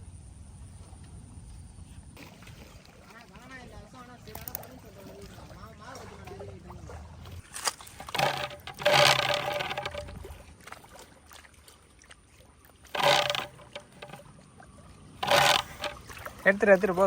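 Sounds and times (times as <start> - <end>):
fish splashing in water: 2.2 - 17.0.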